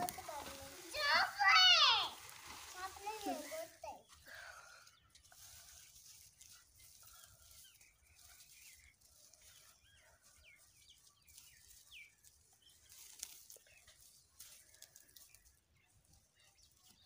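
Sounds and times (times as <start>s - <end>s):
small birds chirping: 0.0s - 17.0s
straw crackle: 0.0s - 17.0s
straw rustling: 0.0s - 17.0s.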